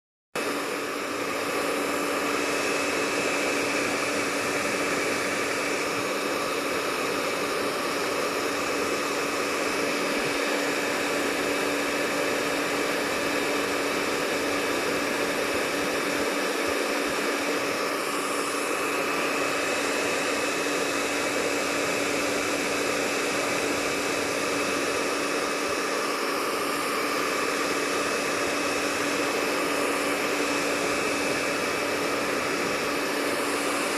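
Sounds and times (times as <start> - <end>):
hair dryer running: 0.4 - 33.9.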